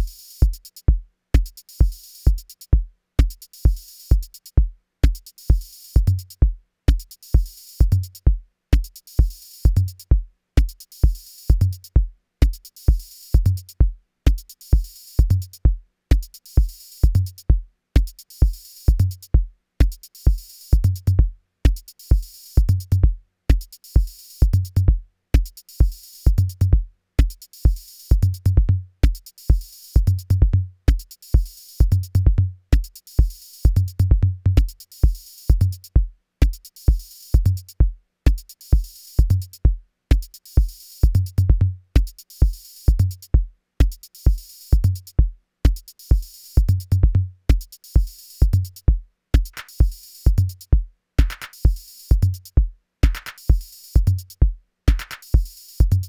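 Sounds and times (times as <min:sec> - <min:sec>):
kick drum: 0:00.0 - 0:56.0.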